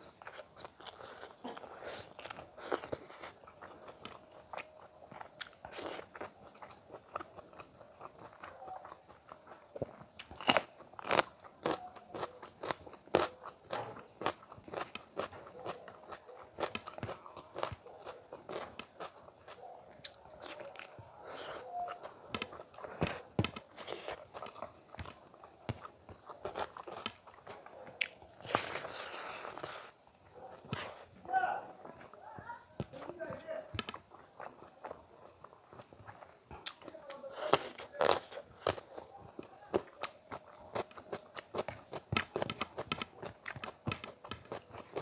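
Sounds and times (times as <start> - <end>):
wet chewing: 0.0 - 31.2, 31.8 - 45.0
crunchy bites into chilli: 0.2 - 29.9, 36.6 - 45.0.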